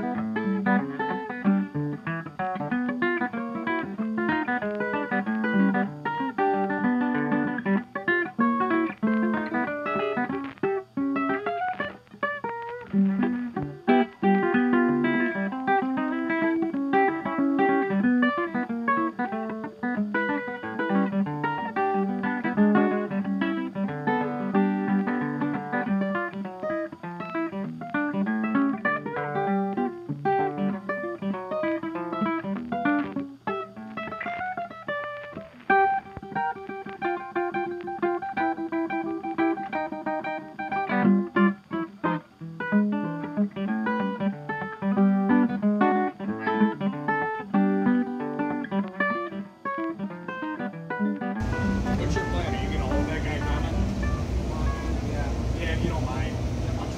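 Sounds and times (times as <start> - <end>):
plucked guitar music: 0.0 - 56.9.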